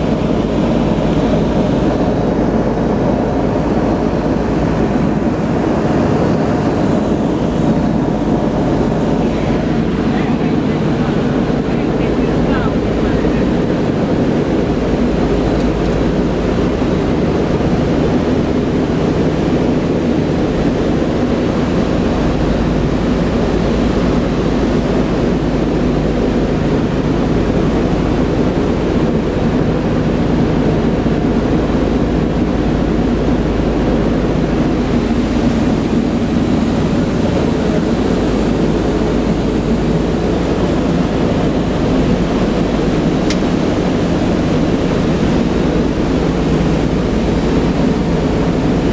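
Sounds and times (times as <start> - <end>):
aircraft engines droning: 0.0 - 48.9.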